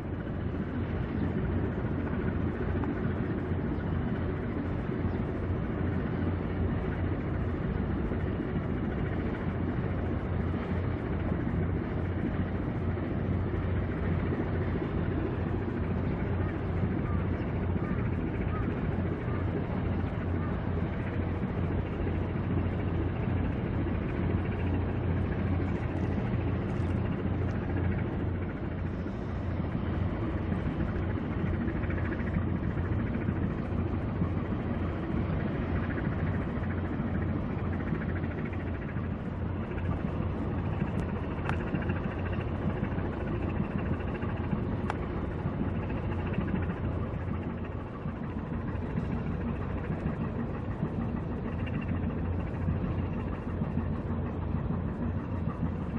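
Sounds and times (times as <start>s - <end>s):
ship diesel engine rumbling: 0.1s - 55.9s.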